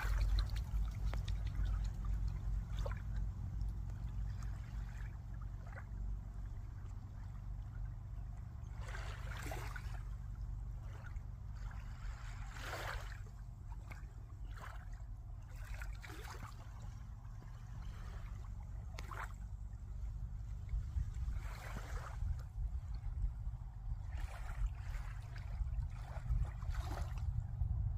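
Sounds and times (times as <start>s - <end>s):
steady low rumble: 0.0s - 27.9s
water splashing and lapping: 0.0s - 27.9s.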